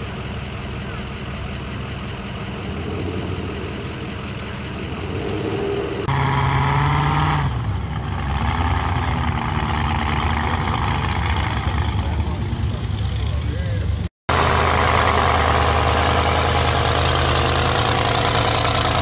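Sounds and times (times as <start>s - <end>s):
engine idling unevenly: 0.0s - 6.2s, 7.6s - 19.0s
loud vehicle held tone: 0.0s - 19.0s.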